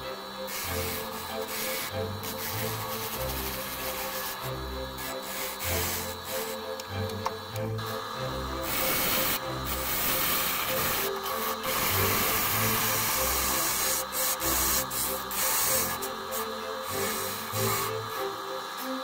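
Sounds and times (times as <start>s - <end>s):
lathe tool cutting wood hiss: 0.0s - 19.0s.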